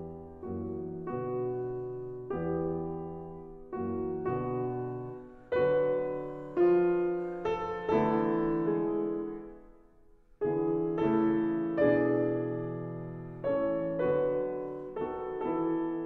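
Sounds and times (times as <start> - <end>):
solo piano slow chords: 0.0 - 16.0.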